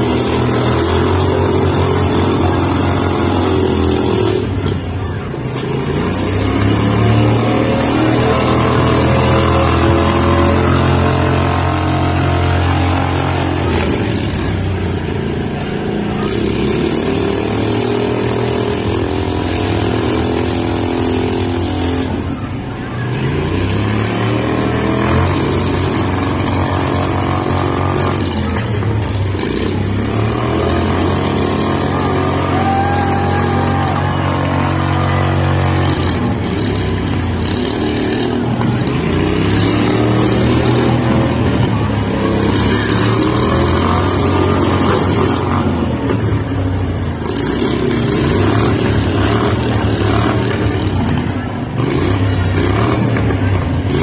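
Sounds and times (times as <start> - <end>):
small engines revving: 0.0 - 54.0.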